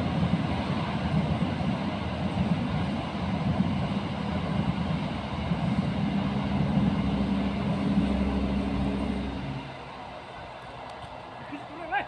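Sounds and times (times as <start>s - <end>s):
steady low hum: 0.0s - 10.6s
train wheels rumbling on rails: 0.0s - 12.0s.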